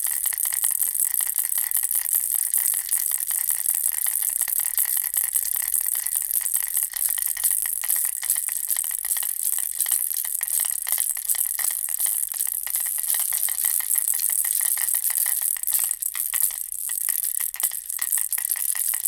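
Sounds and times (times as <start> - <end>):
plastic baby rattle shaken: 0.0 - 19.0.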